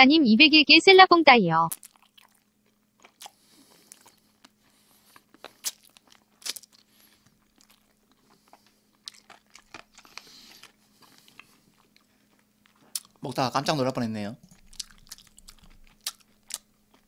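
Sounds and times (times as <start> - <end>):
chewing and lip-smacking: 1.7 - 13.4, 14.4 - 17.0.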